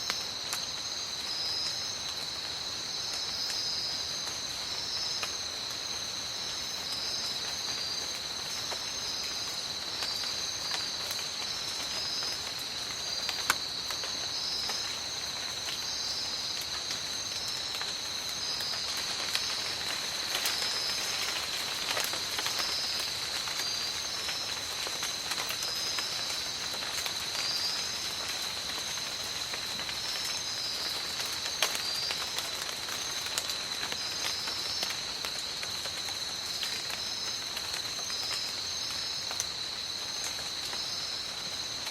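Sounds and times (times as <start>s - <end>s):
rain on leaves: 0.0s - 41.9s.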